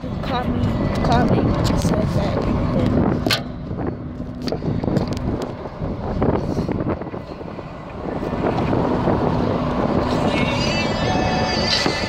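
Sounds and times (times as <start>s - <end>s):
low rumble inside car cabin: 0.0s - 12.0s.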